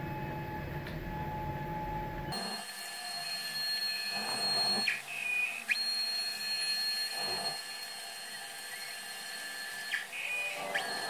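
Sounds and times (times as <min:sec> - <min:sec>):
stepper motors whining: 0:01.1 - 0:11.0.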